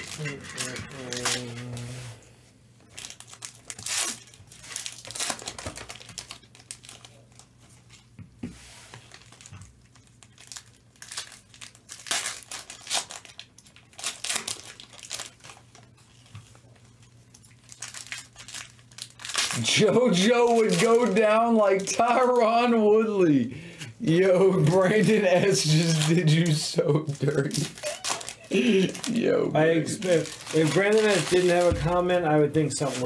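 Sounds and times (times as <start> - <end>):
foil wrappers tearing and crinkling: 0.0 - 1.9, 2.9 - 8.1, 8.9 - 23.1, 24.1 - 33.0.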